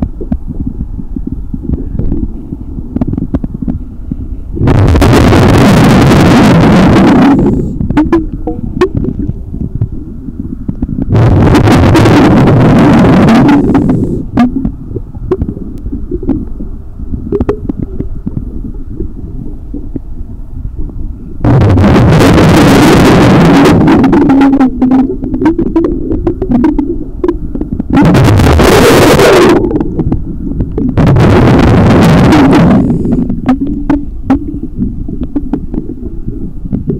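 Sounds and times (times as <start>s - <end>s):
low underwater rumble: 0.0s - 36.9s
underwater bubbles rushing: 0.0s - 36.9s.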